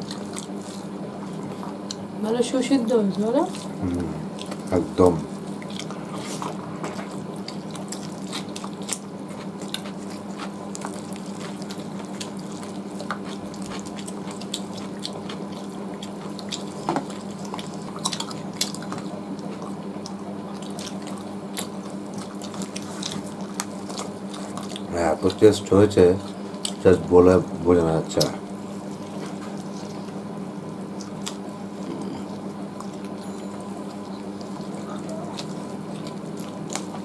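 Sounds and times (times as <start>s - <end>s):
wet chewing mouth sounds: 0.0s - 2.2s, 3.4s - 37.0s.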